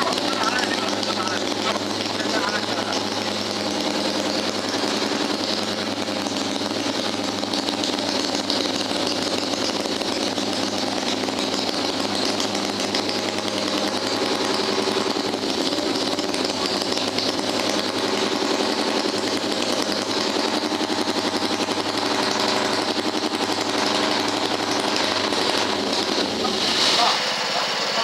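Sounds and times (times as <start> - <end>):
motorcycle engine running steadily: 0.0 - 28.0.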